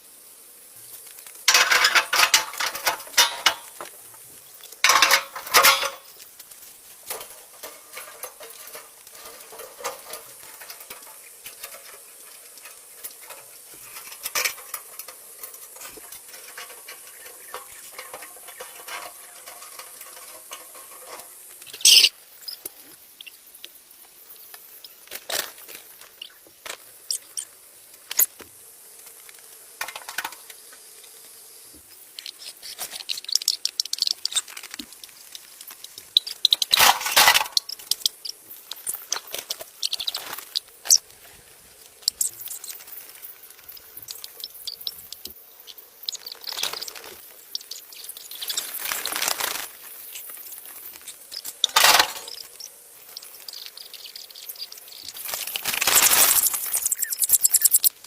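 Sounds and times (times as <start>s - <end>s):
scratching: 1.2s - 22.7s, 32.1s - 58.0s.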